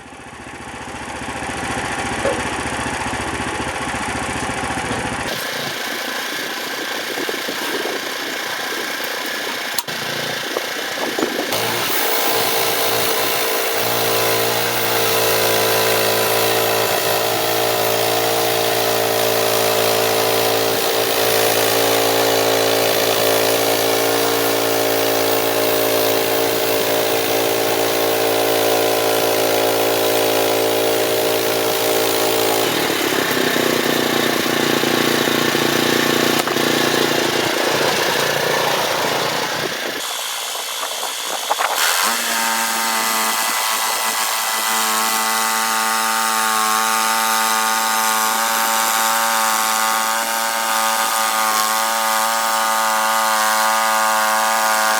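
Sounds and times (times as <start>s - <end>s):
small gas engine running: 0.0s - 54.9s.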